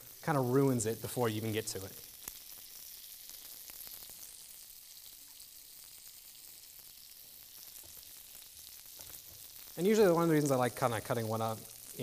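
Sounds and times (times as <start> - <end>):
food sizzling on a grill: 0.0 - 12.0.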